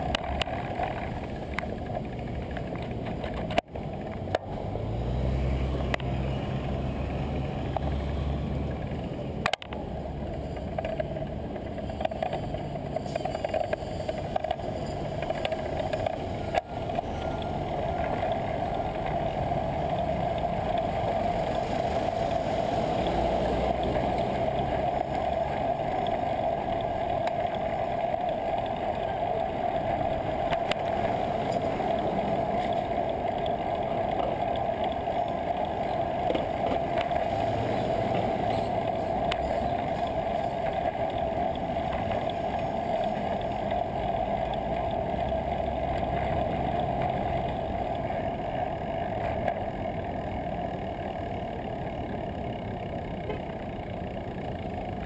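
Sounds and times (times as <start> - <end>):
car engines rumbling: 0.0 - 55.0.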